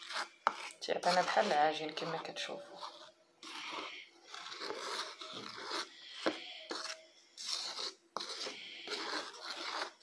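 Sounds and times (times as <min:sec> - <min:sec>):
spoon scraping in bowl: 0:00.0 - 0:10.0.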